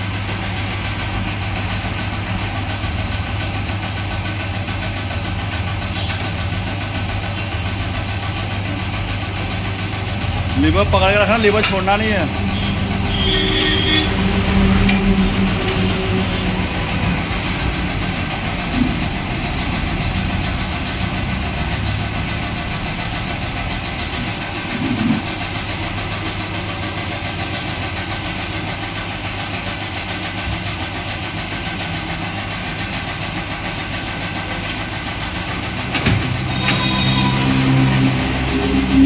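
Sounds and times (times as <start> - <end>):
tyre changer motor hum: 0.0 - 39.0.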